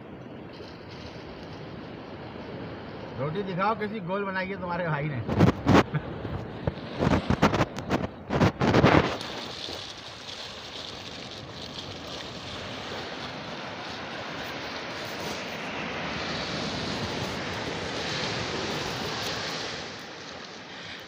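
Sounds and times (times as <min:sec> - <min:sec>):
sea surf rushing on shore: 0:00.0 - 0:21.0.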